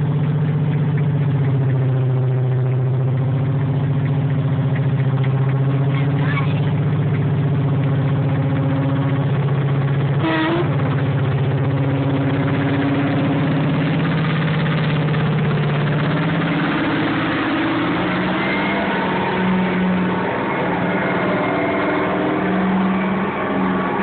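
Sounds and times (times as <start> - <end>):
diesel locomotive engines pulling away: 0.0 - 24.0.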